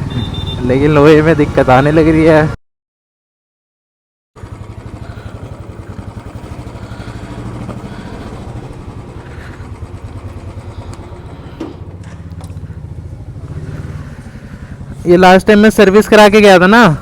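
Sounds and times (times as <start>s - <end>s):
motorcycle engine idling: 0.0s - 1.9s, 4.4s - 17.0s.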